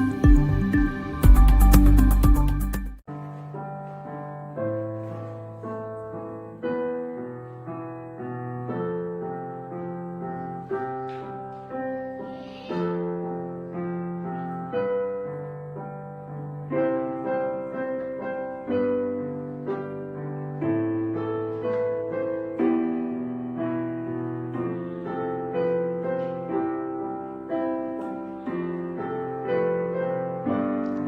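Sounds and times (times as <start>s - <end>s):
gentle piano piece: 0.0s - 31.0s.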